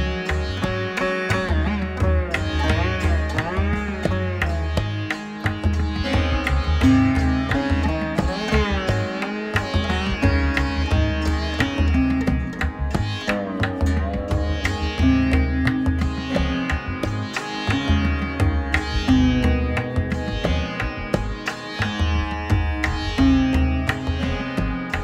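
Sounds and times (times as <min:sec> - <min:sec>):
plucked string melody: 0:00.0 - 0:25.0.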